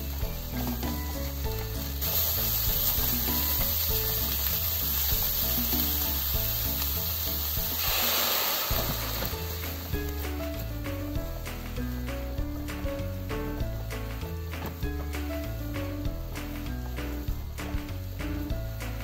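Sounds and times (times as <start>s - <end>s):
sauce hissing in hot pan: 0.0s - 14.4s, 15.4s - 19.0s
background music: 0.0s - 19.0s
meat sizzling in a frying pan: 0.0s - 19.0s.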